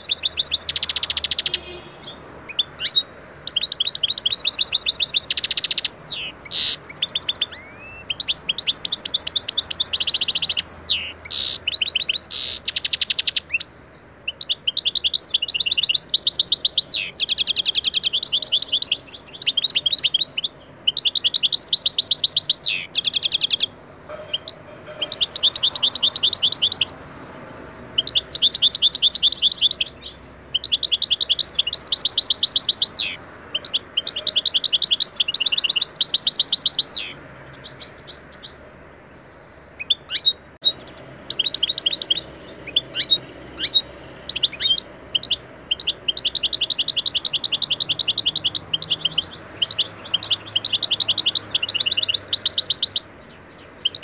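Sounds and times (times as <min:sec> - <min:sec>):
finch twittering trills: 0:00.0 - 0:38.6, 0:39.5 - 0:54.0.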